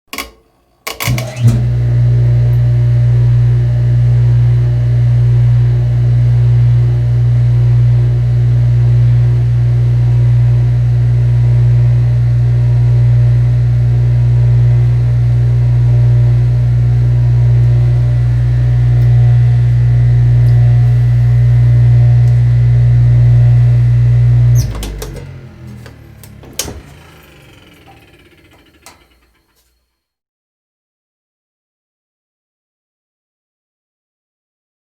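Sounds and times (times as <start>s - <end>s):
dishwasher motor humming: 0.9s - 29.8s.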